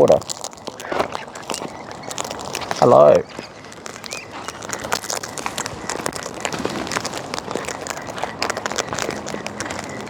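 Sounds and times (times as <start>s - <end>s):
beaks cracking seeds: 0.0s - 10.0s
birds scuffling: 0.0s - 10.0s.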